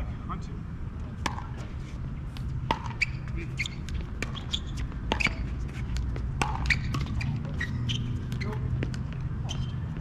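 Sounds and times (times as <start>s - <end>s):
shoe scuffs on hard court: 1.3s - 10.0s.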